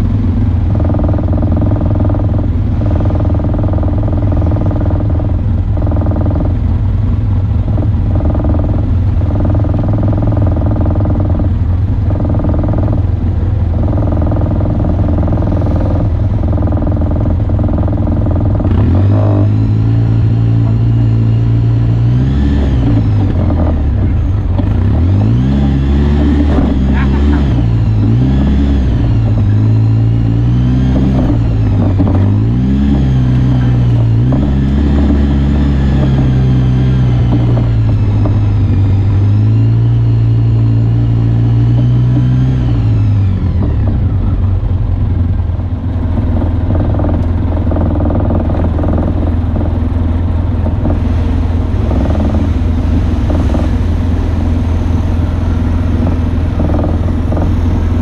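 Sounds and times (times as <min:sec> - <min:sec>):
rattling and knocking: 0:00.0 - 0:44.4, 0:45.4 - 0:58.0
off-road vehicle engine driving: 0:00.0 - 0:58.0.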